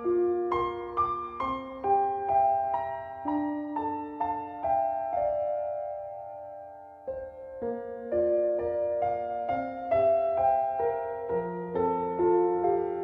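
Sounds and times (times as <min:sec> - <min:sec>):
soft solo piano melody: 0:00.0 - 0:13.0.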